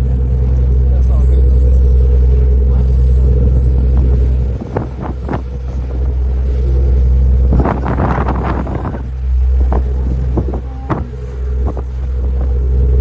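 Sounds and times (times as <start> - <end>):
boat engine droning: 0.0 - 13.0
wind on microphone: 2.2 - 13.0.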